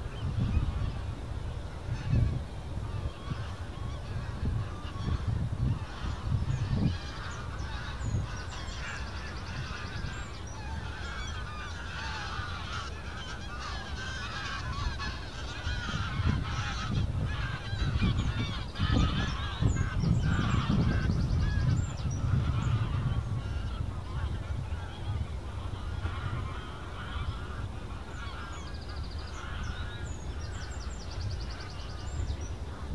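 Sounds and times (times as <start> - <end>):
geese honking: 0.0 - 32.9
wind rumble on microphone: 0.0 - 32.9.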